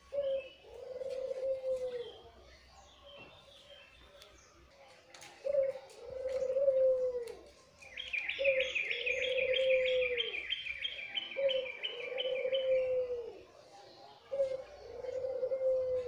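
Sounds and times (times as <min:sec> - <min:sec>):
dove cooing: 0:00.0 - 0:02.4, 0:05.1 - 0:16.0.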